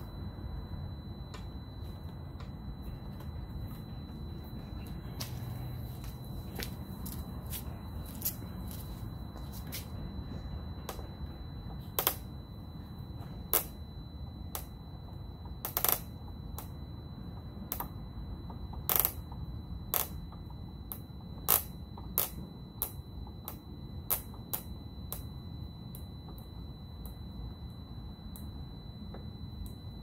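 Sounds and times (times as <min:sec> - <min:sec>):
faint steady high tone: 0:00.0 - 0:30.0.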